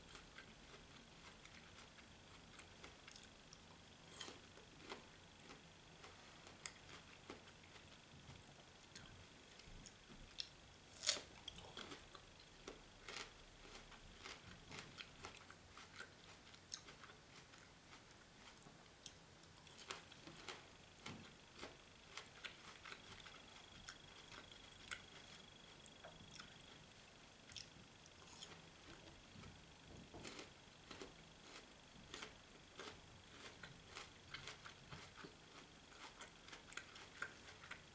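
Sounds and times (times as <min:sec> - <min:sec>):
chewing and crunching food: 0:00.0 - 0:37.9.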